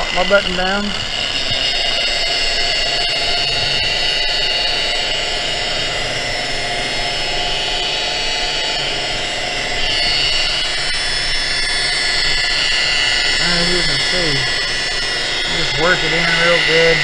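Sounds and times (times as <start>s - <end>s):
electric buffer whine: 0.0s - 17.0s
polishing pad rushing: 0.0s - 17.0s.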